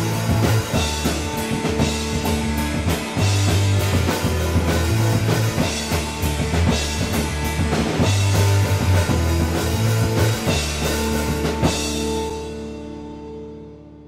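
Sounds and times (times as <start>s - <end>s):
drum kit: 0.0s - 13.8s
rock band music: 0.0s - 14.0s.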